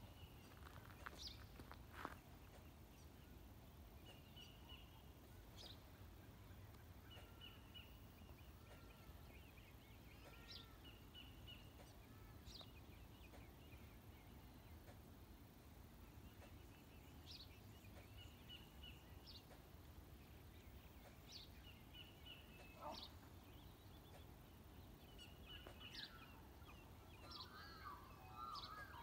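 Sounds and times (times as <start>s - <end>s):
faint birdsong: 0.0s - 29.0s.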